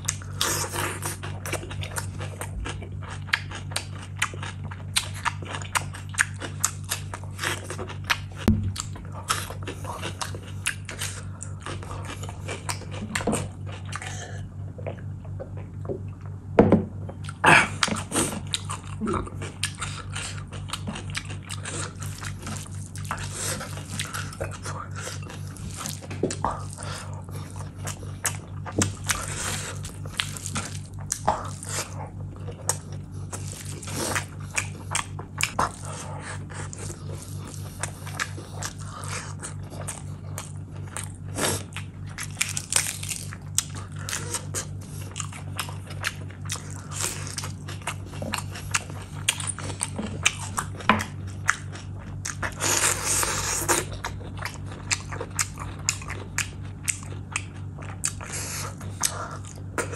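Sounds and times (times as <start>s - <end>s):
wet chewing: 0.0s - 16.4s, 17.2s - 59.9s.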